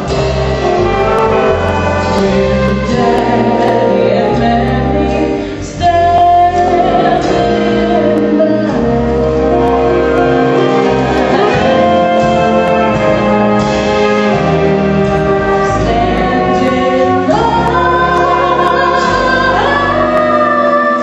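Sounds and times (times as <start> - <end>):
instrumental accompaniment: 0.0 - 21.0
woman singing: 0.8 - 13.2, 15.1 - 21.0.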